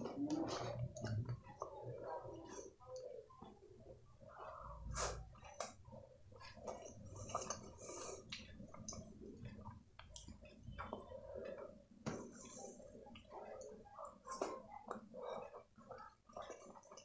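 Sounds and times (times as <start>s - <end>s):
chewing and wet mouth sounds: 0.0s - 17.0s.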